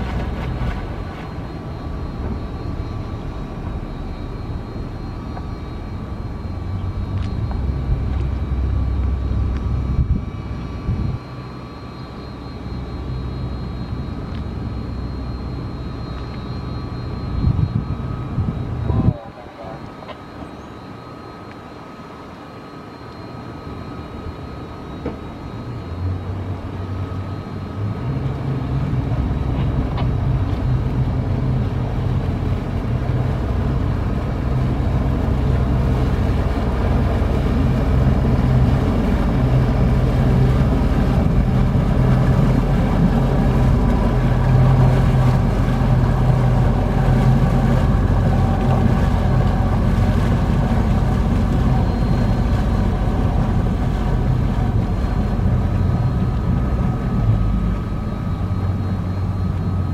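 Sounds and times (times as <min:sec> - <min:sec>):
outboard engines low drone: 0:00.0 - 0:59.9.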